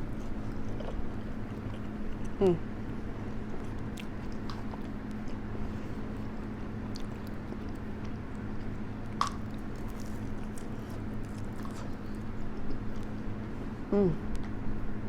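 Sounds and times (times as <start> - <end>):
person chewing close up: 0.0 - 2.4, 3.1 - 13.2
electric fan hum: 0.0 - 15.0.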